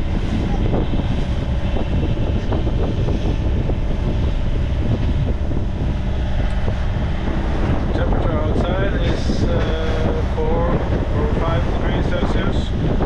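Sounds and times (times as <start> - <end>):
waves rushing along hull: 0.0 - 13.0
wind buffeting microphone: 0.0 - 13.0.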